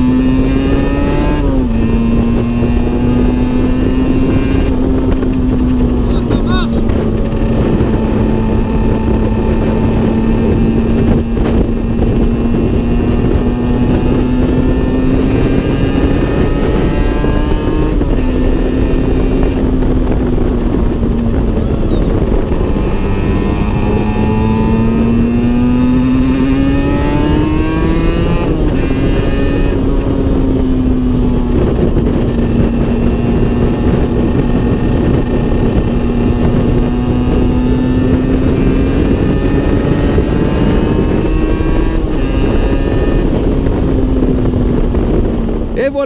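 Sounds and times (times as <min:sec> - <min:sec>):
two-stroke motorcycle engine: 0:00.0 - 0:46.0
wind and road noise: 0:00.0 - 0:46.0.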